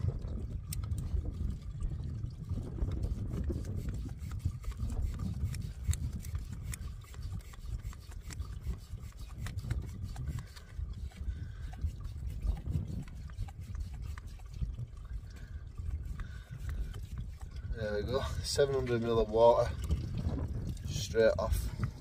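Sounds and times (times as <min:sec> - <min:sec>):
water filter pump clicking: 0:00.0 - 0:21.0
water trickling: 0:00.0 - 0:22.0
wind rumbling on microphone: 0:00.0 - 0:22.0.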